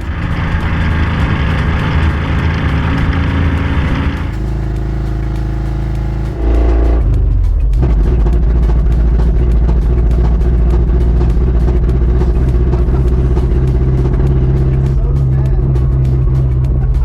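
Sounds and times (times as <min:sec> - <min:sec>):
background music: 0:00.0 - 0:17.0
truck engine running: 0:00.0 - 0:17.0.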